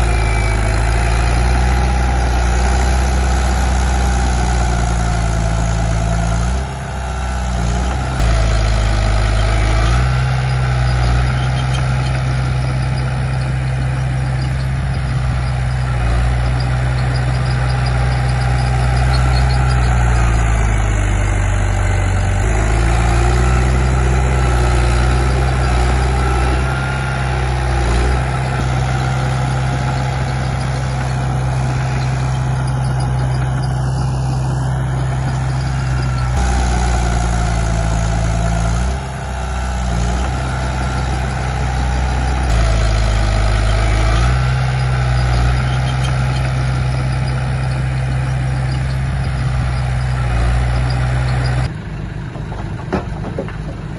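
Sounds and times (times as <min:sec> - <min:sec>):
bulldozer diesel engine running hard: 0:00.0 - 0:53.9.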